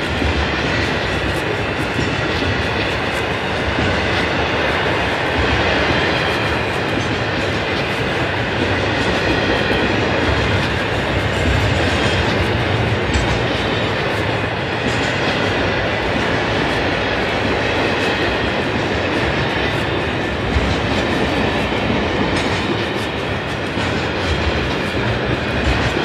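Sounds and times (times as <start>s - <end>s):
train wheels rumbling on rail: 0.0s - 26.0s
wheels clicking over rail joints: 0.0s - 26.0s.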